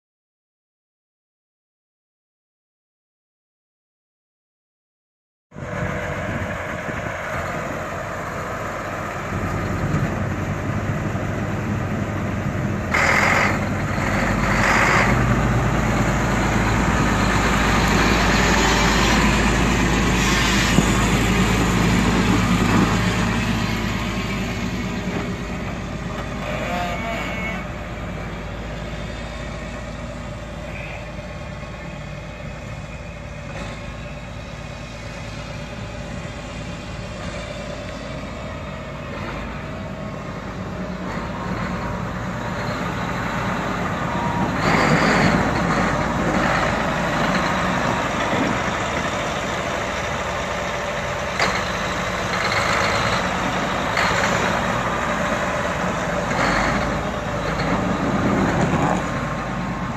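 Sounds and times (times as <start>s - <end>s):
diesel tractor engine rumbling: 5.5s - 59.9s.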